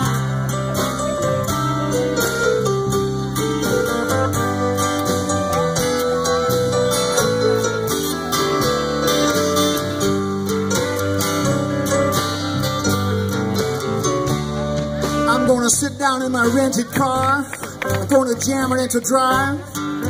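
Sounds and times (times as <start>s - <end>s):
bass: 0.0s - 20.0s
drums: 0.0s - 20.0s
keyboard: 0.0s - 20.0s
strummed acoustic guitar: 0.0s - 20.0s.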